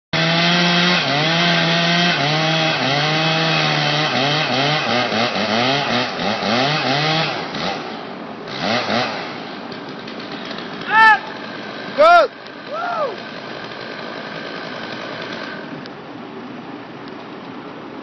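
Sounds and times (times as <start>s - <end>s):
chainsaw revving: 0.2s - 15.8s.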